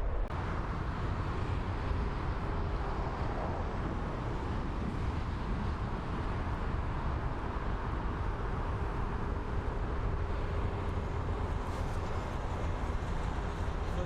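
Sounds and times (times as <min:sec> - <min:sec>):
distant jet engines rumbling: 0:00.0 - 0:14.0.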